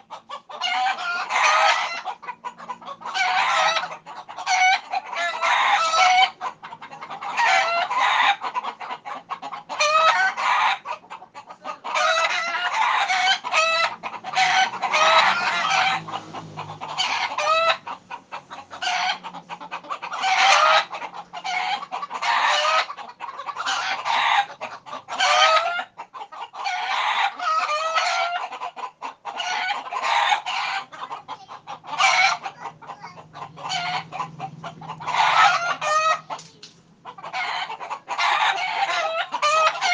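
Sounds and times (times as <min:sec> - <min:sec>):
chickens cackling and squawking: 0:00.0 - 0:39.9.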